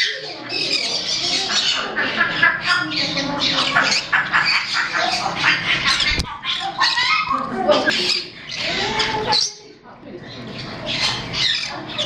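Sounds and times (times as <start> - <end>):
faint people's voices: 0.0 - 12.0
parrots squawking and chattering: 0.0 - 12.0.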